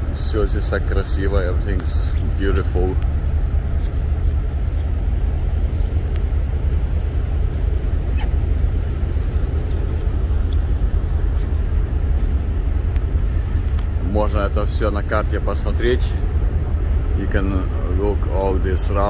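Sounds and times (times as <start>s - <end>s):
ferry machinery rumbling: 0.0s - 19.0s
wind noise: 0.0s - 19.0s.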